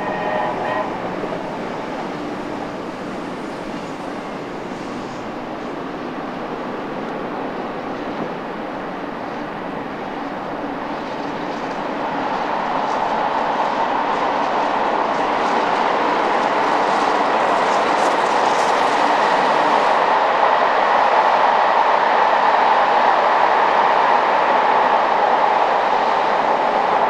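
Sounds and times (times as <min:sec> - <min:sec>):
steam train approaching: 0:00.0 - 0:27.0.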